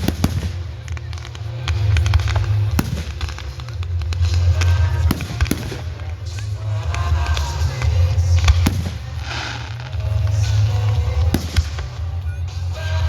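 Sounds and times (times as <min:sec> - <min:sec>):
fireworks popping and crackling: 0:00.0 - 0:13.0
music playing: 0:00.0 - 0:13.0.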